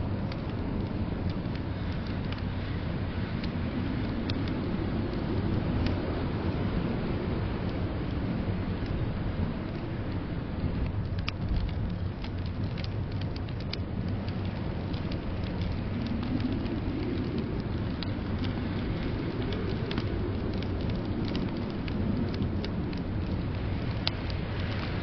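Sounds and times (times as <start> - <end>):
fire popping: 0.0 - 25.0
low rumble of blizzard wind: 0.0 - 25.0
wood fire crackling: 0.0 - 25.0.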